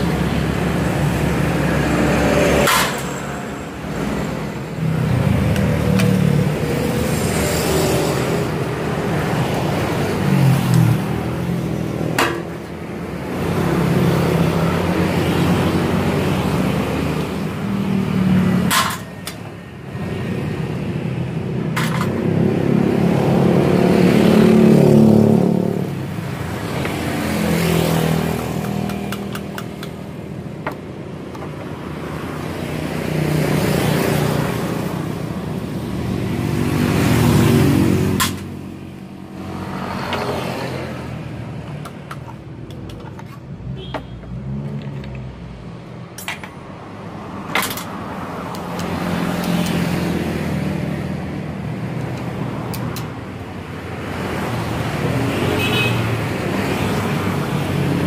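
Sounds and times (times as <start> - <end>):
vehicle engines revving: 0.0 - 58.0.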